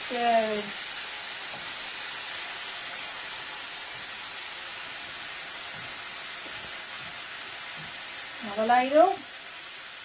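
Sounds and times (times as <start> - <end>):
rice sizzling in frying pan: 0.0 - 10.0.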